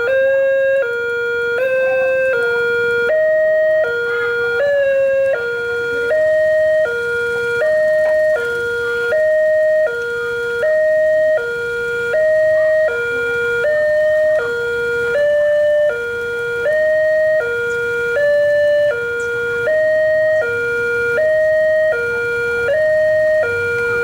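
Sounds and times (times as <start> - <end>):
two-tone warning siren: 0.0 - 24.0.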